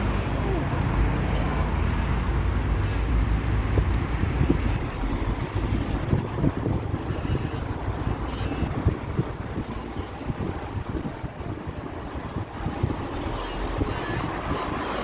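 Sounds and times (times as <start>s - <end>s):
outdoor traffic noise: 0.0s - 15.0s
wind buffeting microphone: 0.0s - 15.0s.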